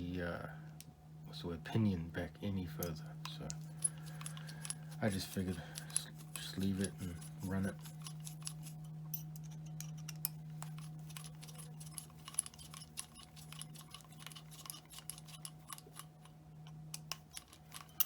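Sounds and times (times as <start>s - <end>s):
low hum: 0.0s - 18.0s
small metallic clicks: 2.8s - 18.0s.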